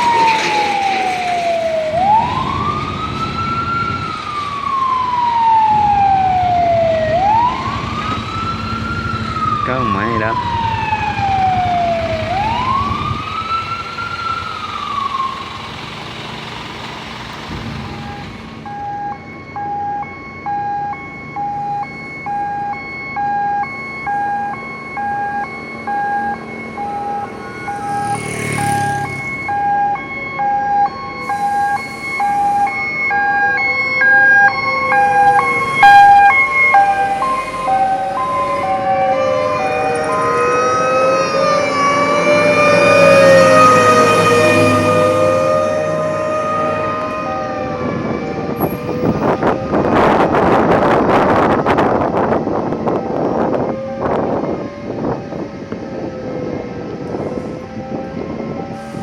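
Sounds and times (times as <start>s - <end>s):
pulsing siren tone: 0.0s - 59.0s
wailing fire truck sirens: 0.0s - 59.0s.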